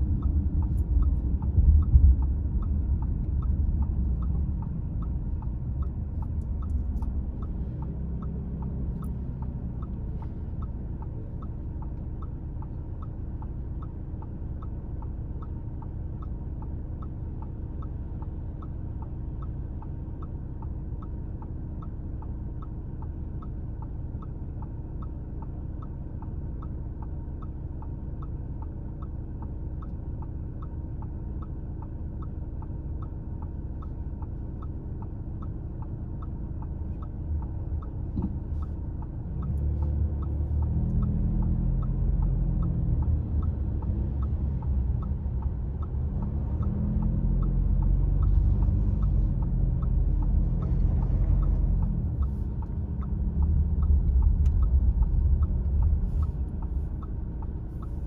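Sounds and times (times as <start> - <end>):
engine rumble: 0.0 - 58.0
car turn signal clicking: 0.1 - 58.0.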